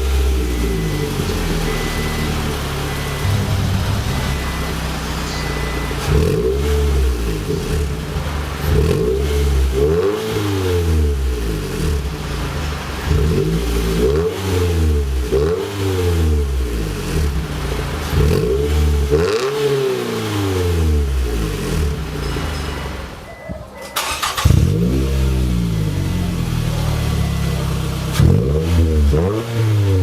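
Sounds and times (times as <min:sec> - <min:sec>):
car engine revving: 0:00.0 - 0:23.2, 0:24.0 - 0:30.0.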